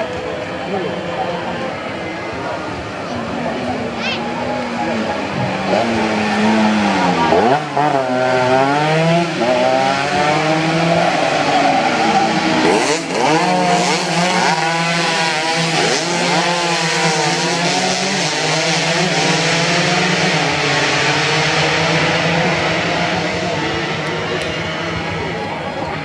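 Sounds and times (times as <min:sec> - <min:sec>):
drone of more motorcycles: 0:00.0 - 0:26.0
racing motorcycles at full throttle: 0:00.0 - 0:26.0.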